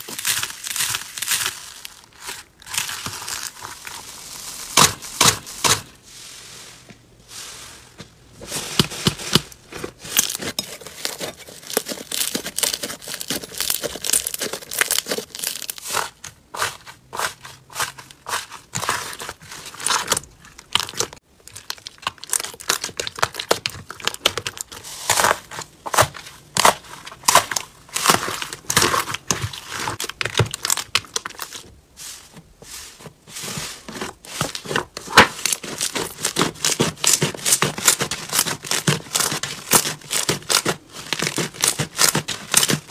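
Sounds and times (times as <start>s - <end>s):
hands squishing slime: 0.0s - 6.0s, 8.4s - 42.9s.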